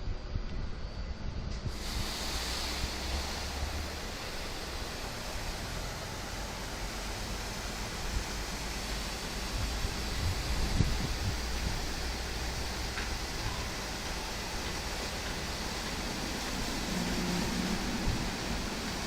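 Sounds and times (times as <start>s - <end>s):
low machine rumble: 0.0s - 19.0s
car wash water spraying: 1.6s - 19.0s.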